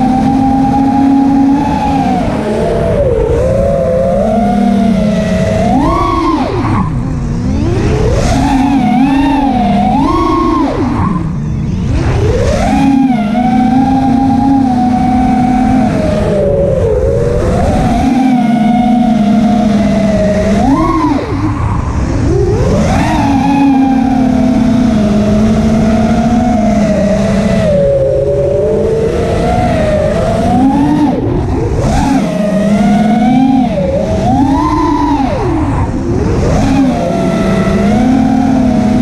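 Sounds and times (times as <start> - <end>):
quadcopter motors whining: 0.0 - 39.0.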